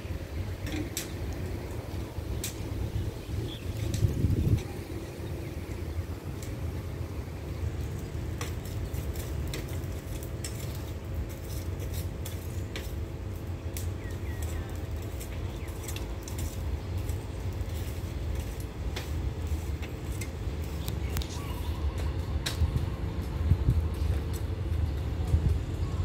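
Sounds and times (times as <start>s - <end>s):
distant diesel locomotive rumble: 0.0s - 26.0s.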